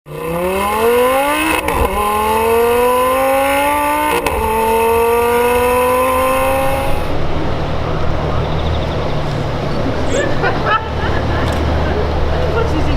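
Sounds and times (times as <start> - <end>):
gear shift crack: 0.1 - 12.9
sports car engine accelerating: 0.1 - 12.9.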